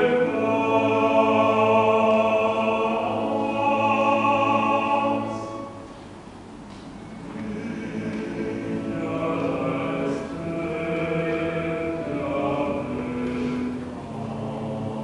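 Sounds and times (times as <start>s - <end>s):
mixed choir singing: 0.0s - 5.8s, 7.1s - 15.0s.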